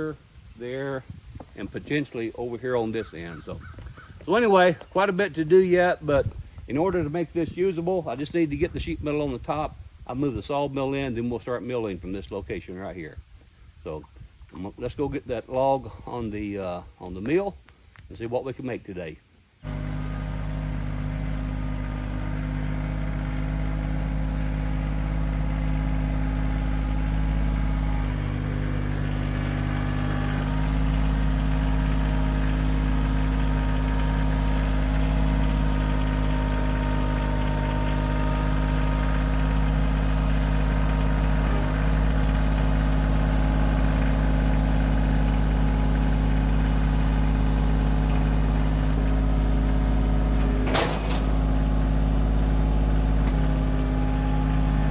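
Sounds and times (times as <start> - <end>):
tractor diesel engine running: 0.0 - 13.2, 19.6 - 54.9.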